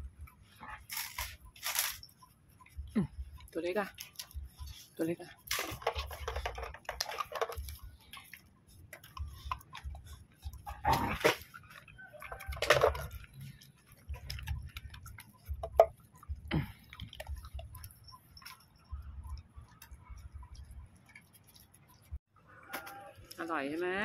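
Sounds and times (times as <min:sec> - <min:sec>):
dogs eating dry kibble: 0:00.1 - 0:22.2.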